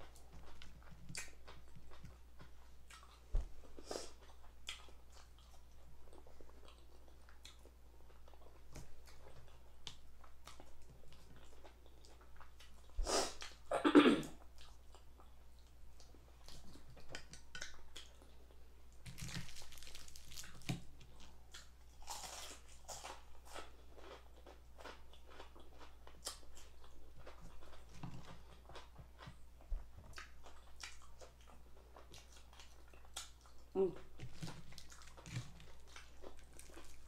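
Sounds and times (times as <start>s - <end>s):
chewing: 0.0s - 13.6s, 14.4s - 37.0s.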